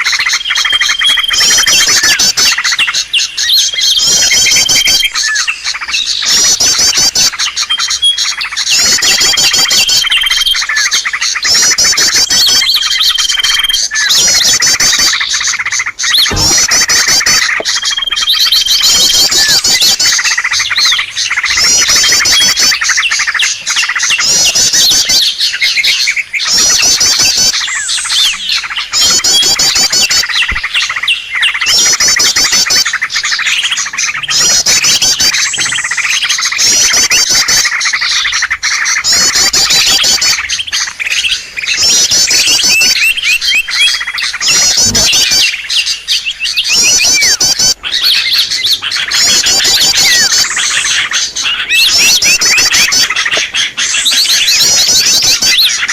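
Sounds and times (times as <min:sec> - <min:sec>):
rapid high bird trills: 0:00.0 - 0:55.9
songbirds chirping: 0:00.0 - 0:55.9.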